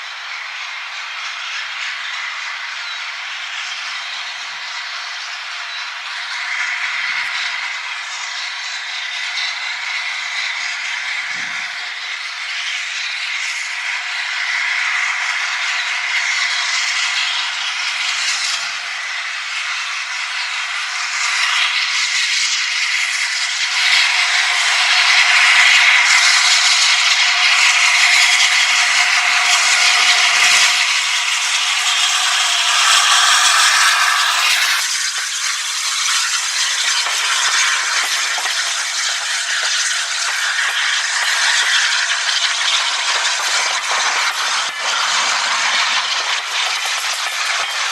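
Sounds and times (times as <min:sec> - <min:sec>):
train wheels rattling on rails: 0:00.0 - 0:47.9.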